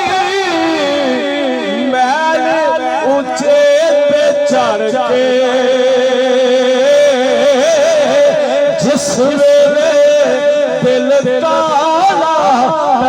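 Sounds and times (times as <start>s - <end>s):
person singing long ornamented notes: 0.0s - 13.0s.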